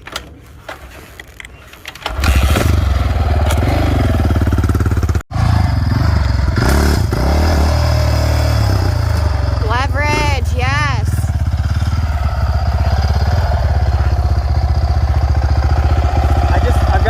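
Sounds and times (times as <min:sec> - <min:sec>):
dirt bike engine revving: 0:02.1 - 0:17.0.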